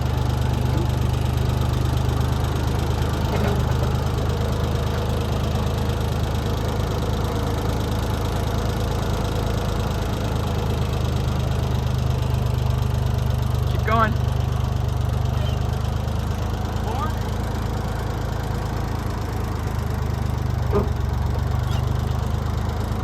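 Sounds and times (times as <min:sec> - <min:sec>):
loader engine idling: 0:00.0 - 0:23.0.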